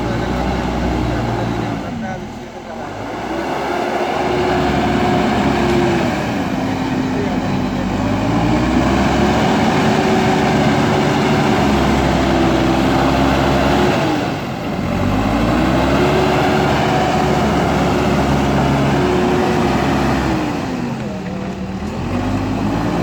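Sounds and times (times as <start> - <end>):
backhoe diesel engine revving: 0.0 - 23.0.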